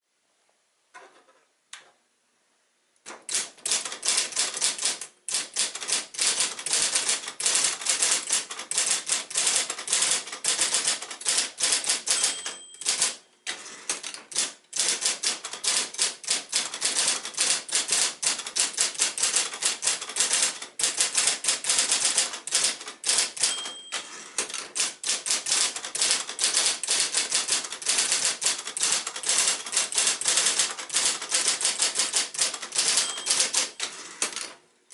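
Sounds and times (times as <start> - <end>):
electric typewriter typing: 3.1 - 34.6.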